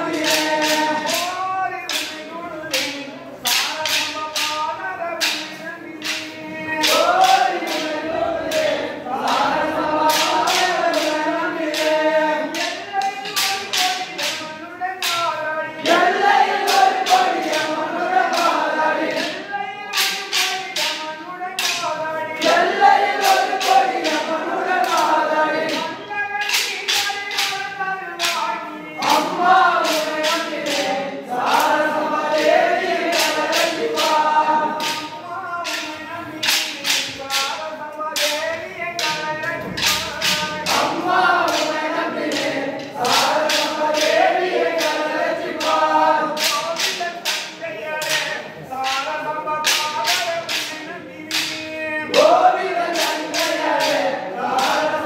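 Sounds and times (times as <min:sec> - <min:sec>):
men singing together: 0:00.0 - 0:55.0
wooden sticks clicking in rhythm: 0:00.0 - 0:55.0.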